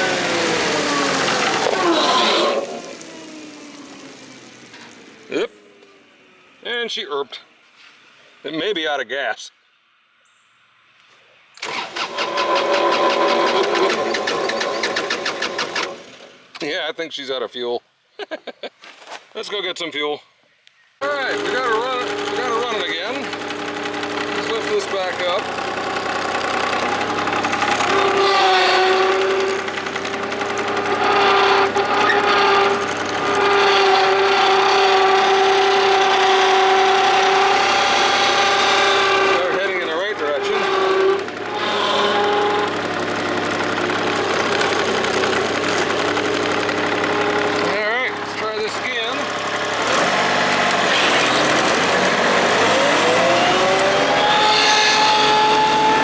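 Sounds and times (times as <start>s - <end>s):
diesel engine cranking: 0.0s - 6.7s, 11.5s - 16.7s, 21.0s - 56.0s.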